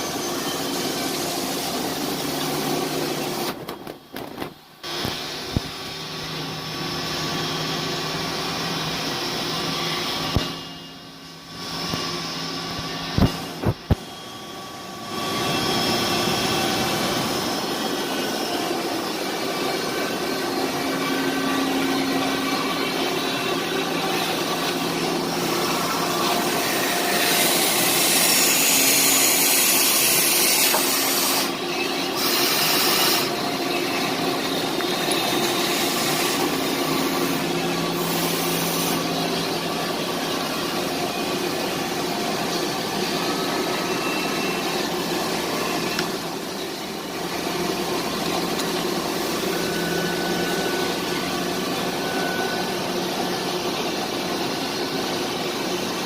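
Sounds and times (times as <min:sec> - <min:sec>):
machine hum with held tones: 0:00.0 - 0:56.0.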